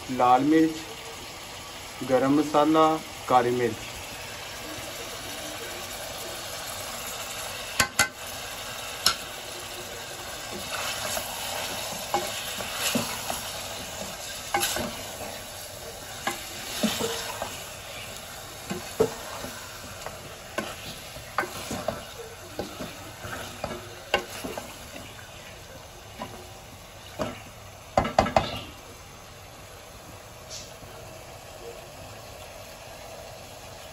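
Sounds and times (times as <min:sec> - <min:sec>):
meat and onions sizzling: 0:00.0 - 0:33.9.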